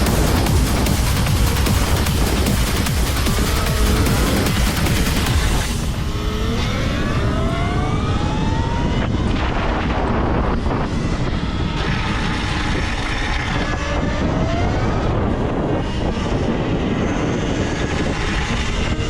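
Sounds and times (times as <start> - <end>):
electric motor whining: 0.0 - 19.0
rushing wind: 0.0 - 19.0.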